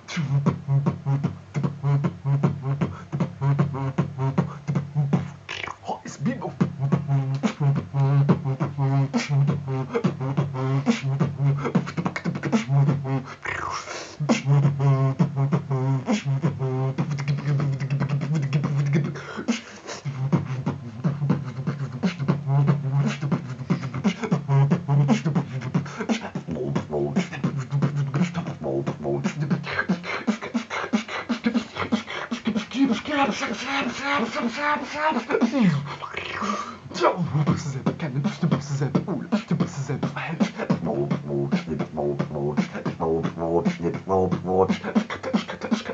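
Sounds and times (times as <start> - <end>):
beatboxing clicks and snare strikes: 0.0 - 34.1, 37.4 - 45.9
beatboxing bass hum: 0.0 - 45.9.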